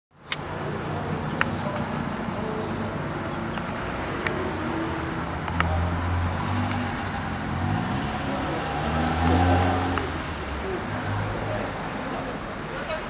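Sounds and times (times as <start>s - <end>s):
vehicle engine hum: 0.2s - 13.0s.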